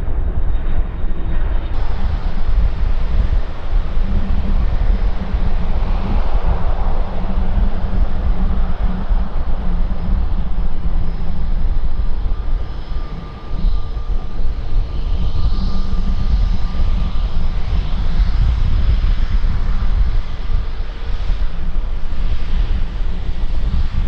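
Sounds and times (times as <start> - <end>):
airliner engines rumbling: 0.0 - 24.0
faint engine whine: 0.0 - 24.0.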